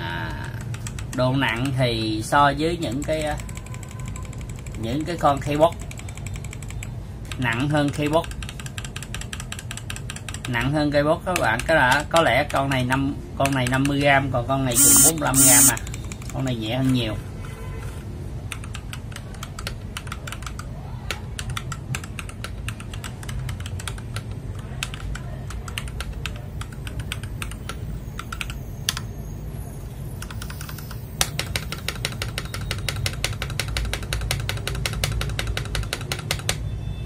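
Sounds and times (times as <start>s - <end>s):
mechanical keyboard typing: 0.3s - 1.8s, 2.7s - 12.8s, 13.4s - 14.0s, 14.7s - 16.4s, 18.5s - 29.0s, 30.2s - 36.6s.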